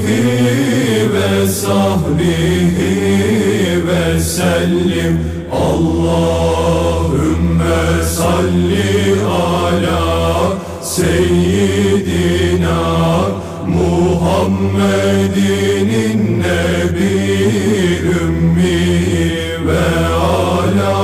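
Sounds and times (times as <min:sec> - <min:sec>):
devotional vocal chanting: 0:00.0 - 0:21.0
steady low drone: 0:00.0 - 0:21.0.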